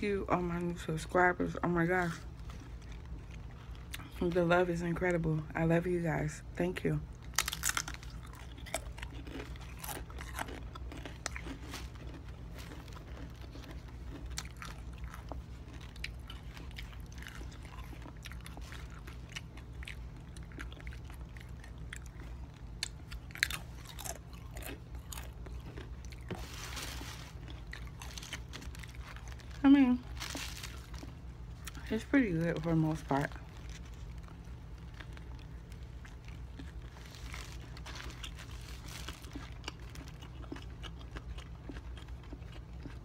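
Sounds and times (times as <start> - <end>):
steady low hum: 0.0 - 43.0
crunching potato chips: 0.4 - 4.4, 7.1 - 43.0.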